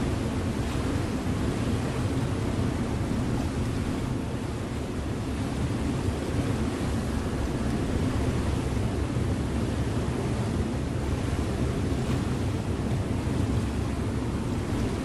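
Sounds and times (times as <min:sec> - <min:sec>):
ship engine drone: 0:00.0 - 0:15.0
water rushing past hull: 0:00.0 - 0:15.0.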